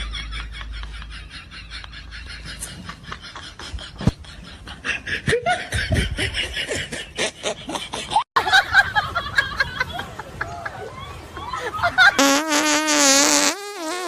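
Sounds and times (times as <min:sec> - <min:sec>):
people laughing and snickering: 0:00.0 - 0:12.3.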